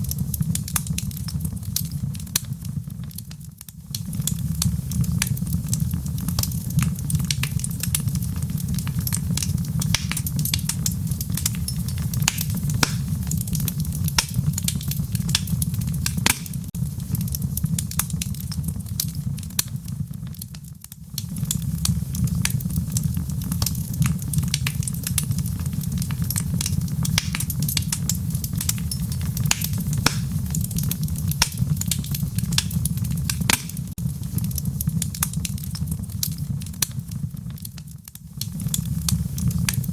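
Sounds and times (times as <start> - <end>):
fire popping and snapping: 0.0 - 39.9
wood fire crackling: 0.0 - 39.9.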